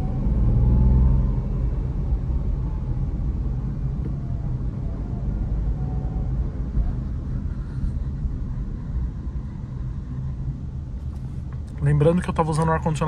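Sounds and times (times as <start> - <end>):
car cabin engine and road rumble: 0.0 - 13.0.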